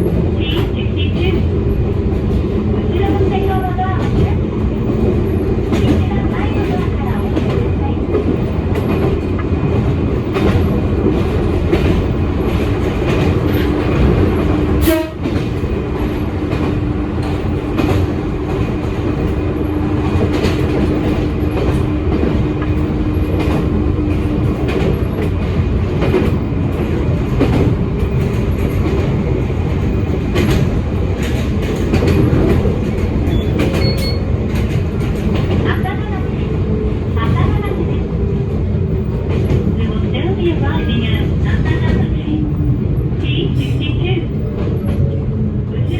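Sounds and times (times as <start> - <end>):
rail joints clacking: 0.0 - 45.9
train wheels and motors rumbling: 0.0 - 45.9.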